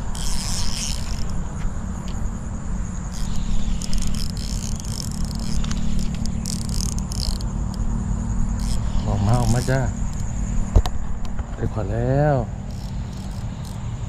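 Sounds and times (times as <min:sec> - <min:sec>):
fishing reel whirring: 0:00.0 - 0:10.6, 0:12.2 - 0:14.0
crickets trilling: 0:00.0 - 0:14.0
wind and handling rumble: 0:00.0 - 0:14.0.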